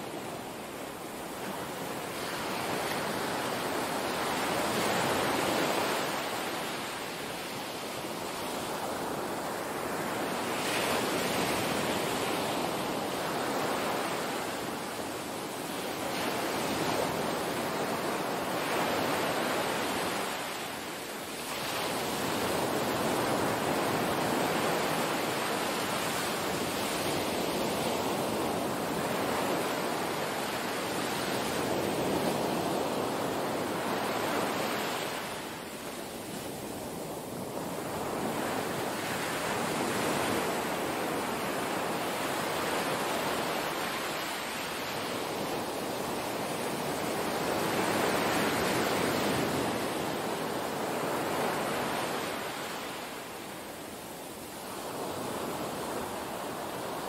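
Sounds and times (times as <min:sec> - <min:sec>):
small waves breaking on beach: 0:00.0 - 0:57.0.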